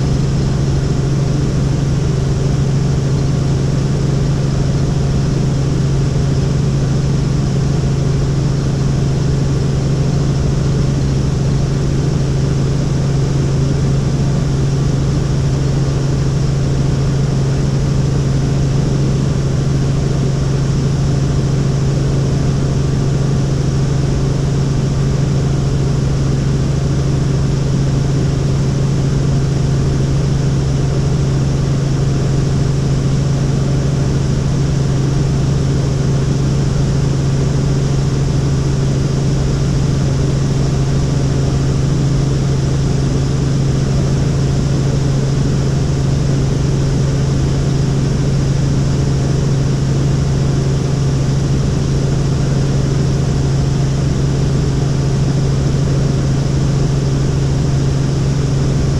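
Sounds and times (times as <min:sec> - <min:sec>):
helicopter engine and rotor drone: 0:00.0 - 0:58.9.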